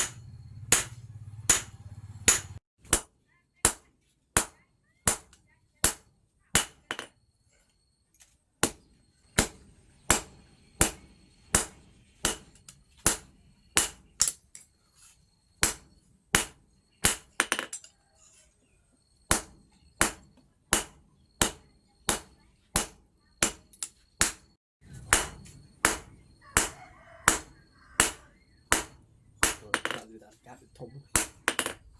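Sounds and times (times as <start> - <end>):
hammer striking steel on anvil: 0.0 - 7.1, 8.6 - 14.4, 15.6 - 17.9, 19.3 - 30.1, 31.0 - 31.9.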